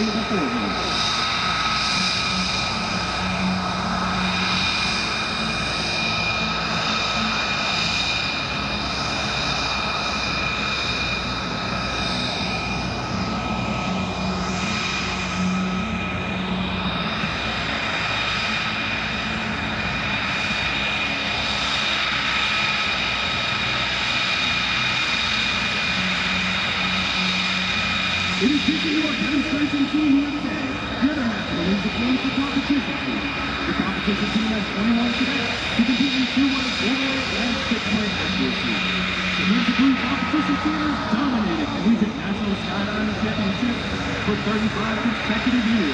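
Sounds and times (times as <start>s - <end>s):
aircraft engine whine: 0.0s - 45.9s.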